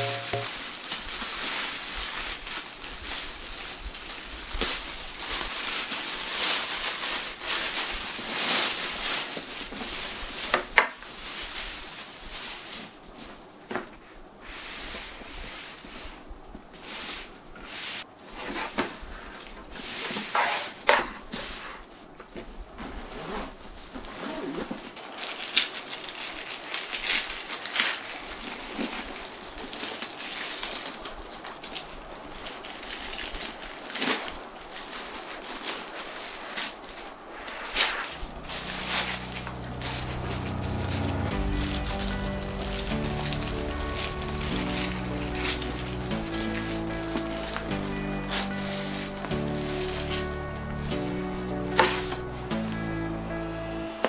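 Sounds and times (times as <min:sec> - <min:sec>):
plastic bag rustling: 0:00.0 - 0:54.0.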